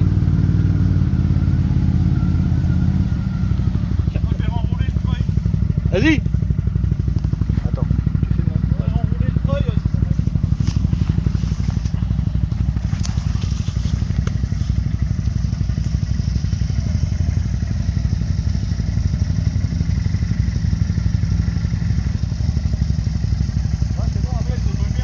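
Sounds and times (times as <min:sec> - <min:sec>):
quad engine running: 0:00.0 - 0:25.0.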